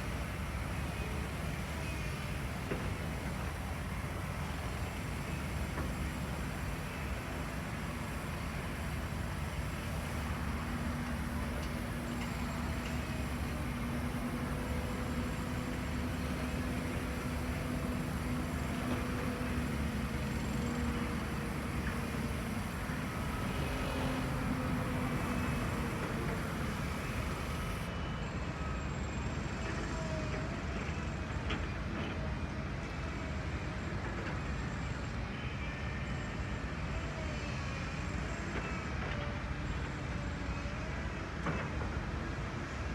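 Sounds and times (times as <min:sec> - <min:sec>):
steady noisy background: 0:00.0 - 0:42.9.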